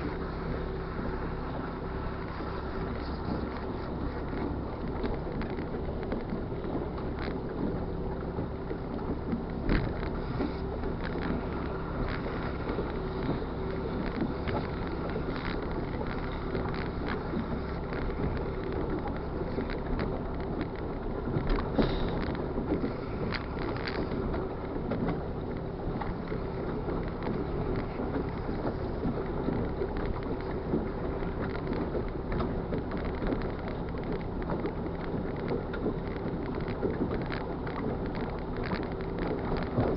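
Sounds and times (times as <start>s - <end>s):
motorboat engine humming: 0.0s - 39.9s
wind and water rushing: 0.0s - 39.9s.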